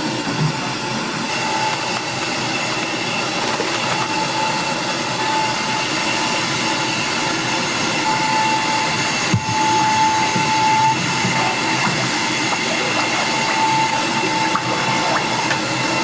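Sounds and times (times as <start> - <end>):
thin steady whine: 0.0 - 16.0.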